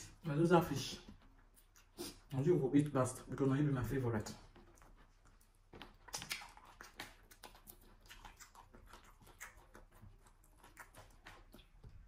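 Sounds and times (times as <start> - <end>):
chewing and wet mouth sounds: 0.0 - 2.5, 4.2 - 12.0.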